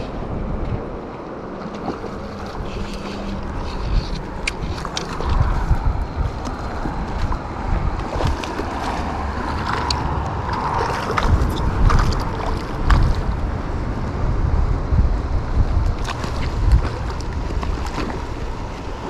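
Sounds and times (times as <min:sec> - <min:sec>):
wind buffeting microphone: 0:00.0 - 0:19.0
creek water running and splashing: 0:01.1 - 0:14.0, 0:15.8 - 0:19.0.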